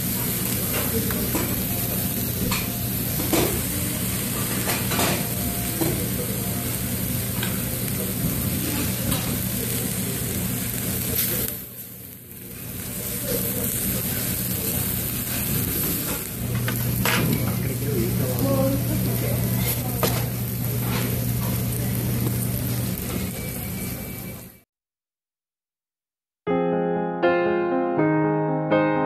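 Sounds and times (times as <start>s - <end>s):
food sizzling in a hot bowl: 0.0s - 24.6s.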